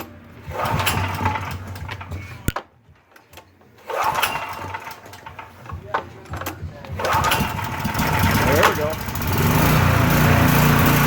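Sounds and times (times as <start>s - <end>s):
generator engine running: 0.0s - 2.5s, 3.8s - 11.0s
generator engine cranking: 0.0s - 11.0s.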